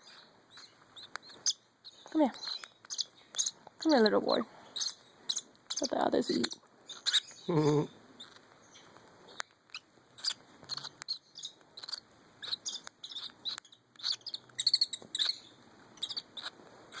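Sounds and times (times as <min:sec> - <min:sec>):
baby birds chirping: 0:00.0 - 0:17.0.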